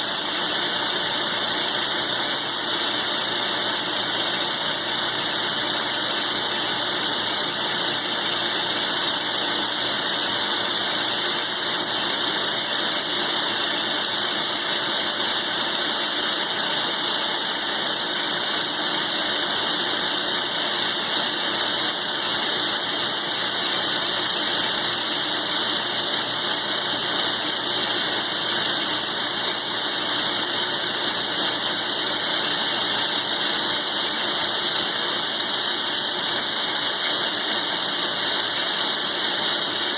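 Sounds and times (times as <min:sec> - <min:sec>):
milling machine cutting steel: 0:00.0 - 0:39.9.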